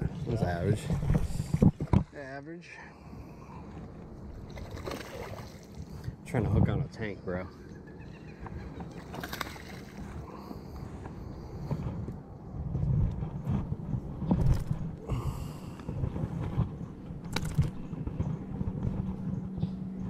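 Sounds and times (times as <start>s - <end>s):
wind rumbling on microphone: 0.0s - 2.2s, 3.0s - 20.0s.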